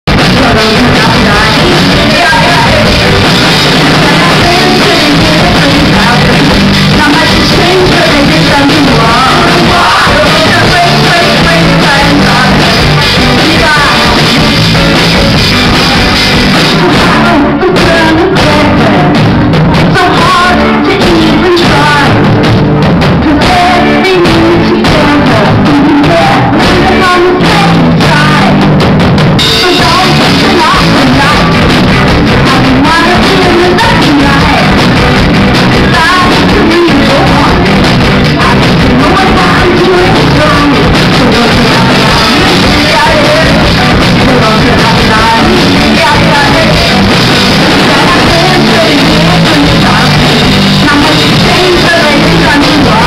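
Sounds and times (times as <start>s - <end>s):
live rock band playing: 0.0s - 53.0s
woman singing lead vocal: 0.1s - 28.7s, 29.5s - 53.0s.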